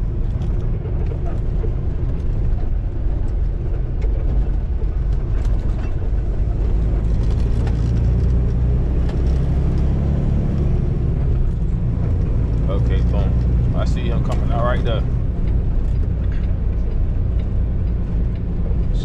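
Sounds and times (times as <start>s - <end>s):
diesel truck engine droning: 0.0s - 19.0s
road noise: 0.0s - 19.0s.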